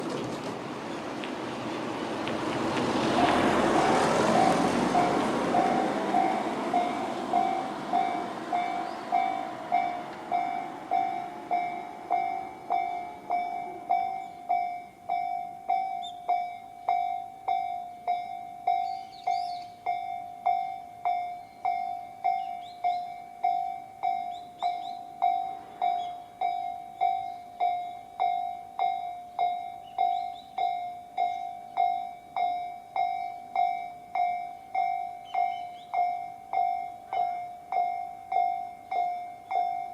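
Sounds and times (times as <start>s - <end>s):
level crossing bells dinging: 4.3s - 39.9s.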